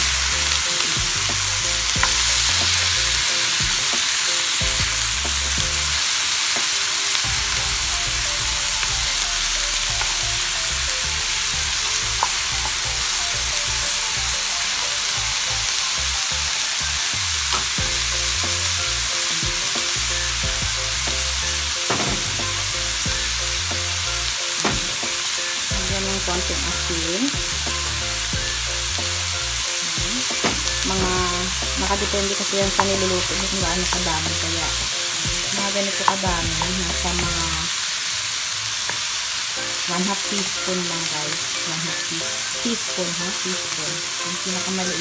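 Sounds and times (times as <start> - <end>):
vegetables sizzling in hot oil: 0.0 - 45.0.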